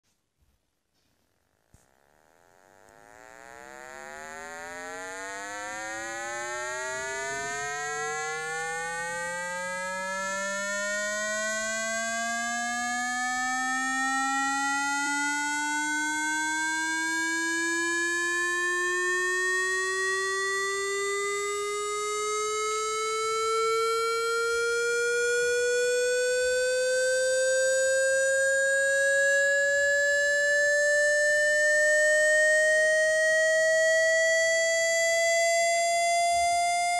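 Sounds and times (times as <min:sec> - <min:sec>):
buzzy electronic rising tone: 0:01.5 - 0:36.9.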